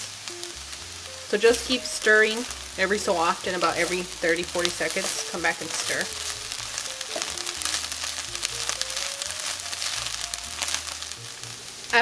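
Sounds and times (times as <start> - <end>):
background music: 0.0 - 12.0
food sizzling in oil: 0.0 - 12.0.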